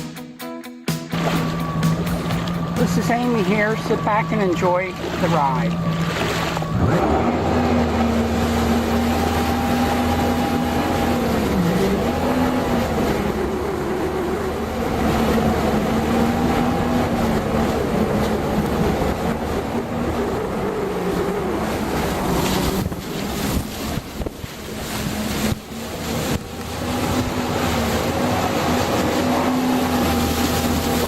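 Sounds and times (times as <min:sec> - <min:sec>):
jet ski engine running: 0:00.9 - 0:31.0
water rushing: 0:01.0 - 0:31.0.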